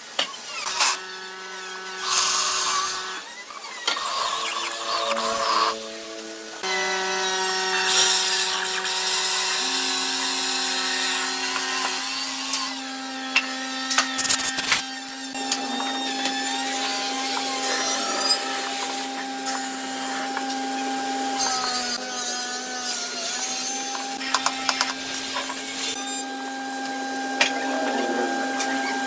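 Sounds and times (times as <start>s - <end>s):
electric power tool motor whining: 0.2s - 29.0s.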